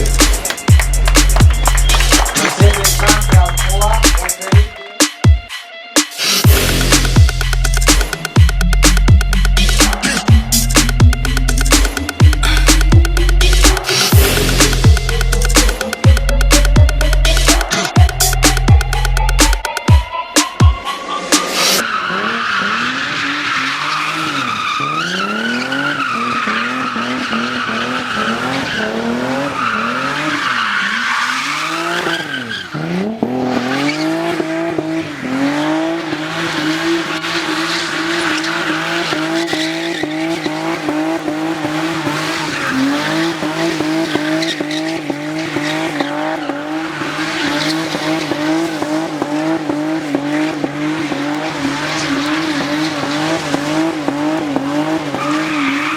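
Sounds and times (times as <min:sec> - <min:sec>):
car engine revving: 0:00.0 - 0:05.3, 0:06.1 - 0:55.9.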